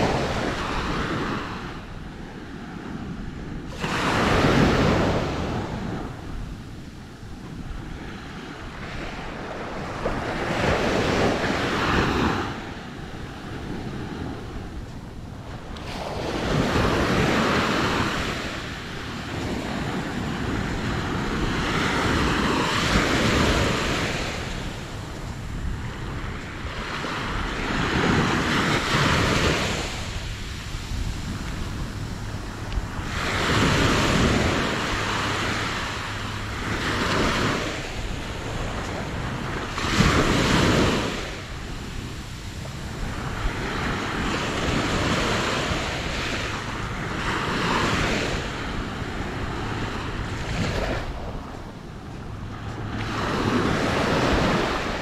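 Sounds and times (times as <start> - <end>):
small waves washing on sand: 0.0 - 55.0
wind rumble on microphone: 0.0 - 55.0.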